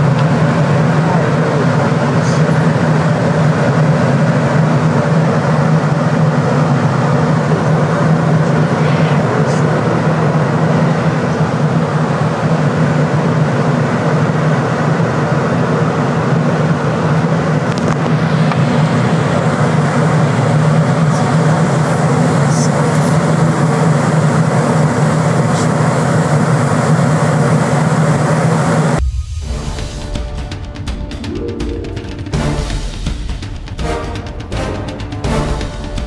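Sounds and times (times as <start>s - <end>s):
airliner engine and airflow drone: 0.0s - 36.0s
low hum: 0.0s - 36.0s.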